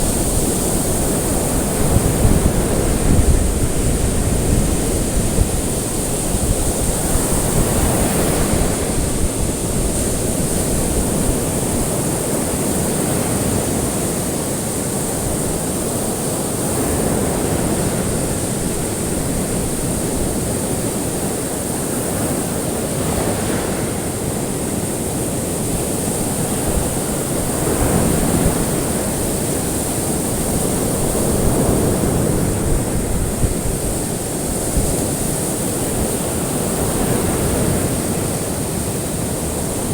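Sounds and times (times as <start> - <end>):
ocean waves on shore: 0.0 - 39.9.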